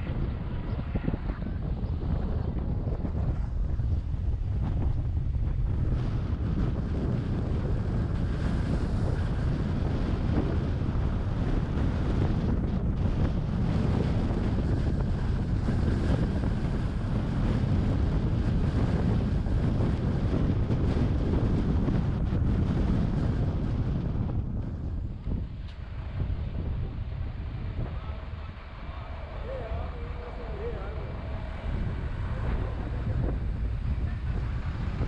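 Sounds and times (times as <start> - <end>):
road noise: 0.0 - 35.0
wind buffeting microphone: 0.0 - 35.0.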